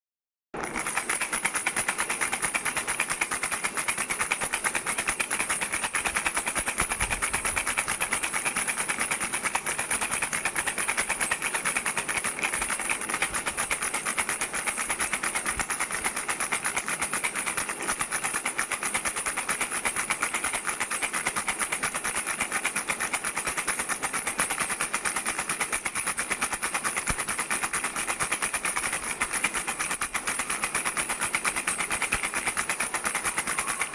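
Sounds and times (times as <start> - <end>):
baby rattle shaken: 0.6 - 33.9.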